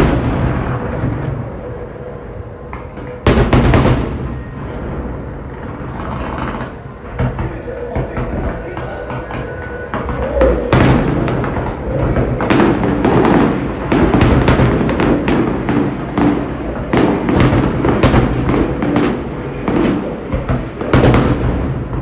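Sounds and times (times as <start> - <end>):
fireworks banging: 0.0 - 22.0.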